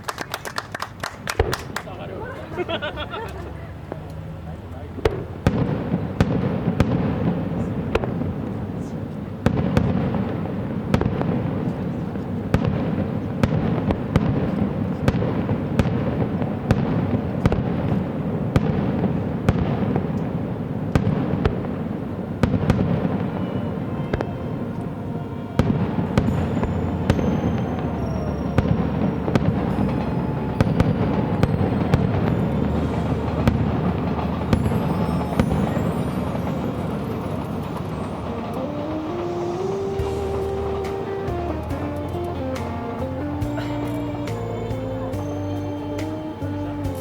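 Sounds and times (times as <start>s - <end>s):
fireworks whistling: 0.0s - 4.0s, 4.9s - 47.0s
fireworks bangs and crackles: 0.0s - 47.0s
booming rumble: 3.9s - 45.4s.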